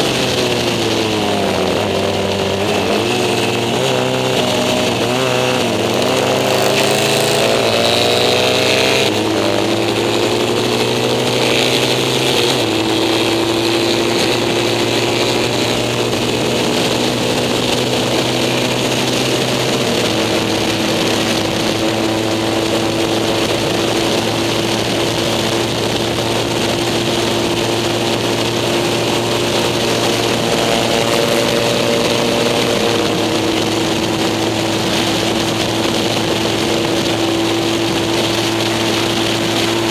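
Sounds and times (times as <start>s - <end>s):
racing sidecar engine accelerating: 0.0s - 39.9s.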